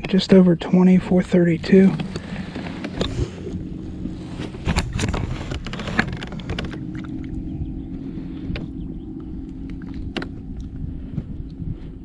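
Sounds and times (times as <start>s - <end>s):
faint hum: 0.0s - 12.0s
wind rumble on microphone: 0.0s - 12.0s.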